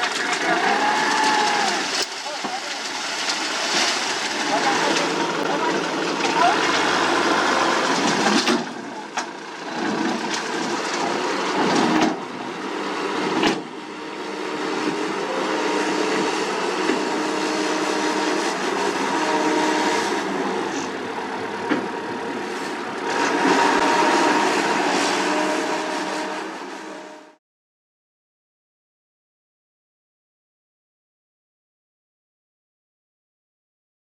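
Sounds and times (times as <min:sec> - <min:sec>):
diesel paving machinery running: 0:00.0 - 0:27.4.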